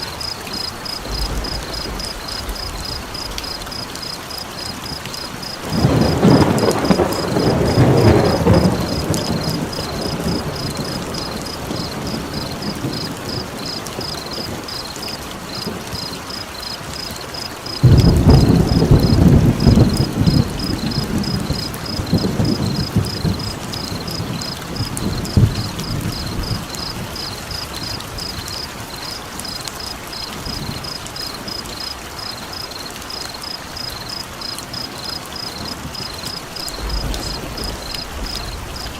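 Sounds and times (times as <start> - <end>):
thunder rumbling: 0.0 - 31.9, 34.7 - 38.9
high cricket-like chirping: 0.0 - 38.9
steady rain: 0.0 - 38.9.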